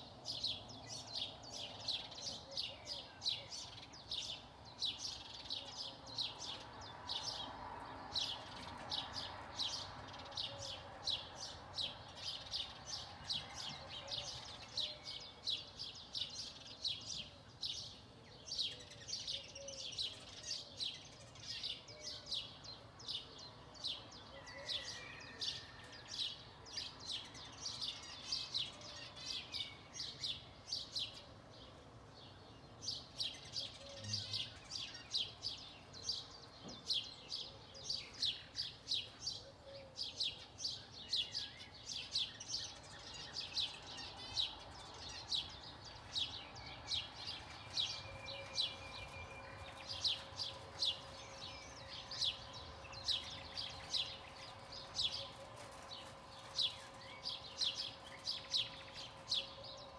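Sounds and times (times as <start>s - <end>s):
faint birdsong: 0.0s - 59.9s.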